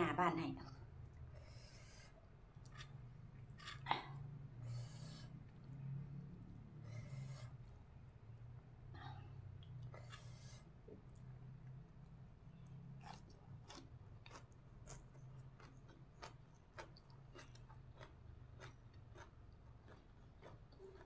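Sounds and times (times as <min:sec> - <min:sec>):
chewing raw shoots: 0:01.0 - 0:07.6, 0:09.6 - 0:21.0.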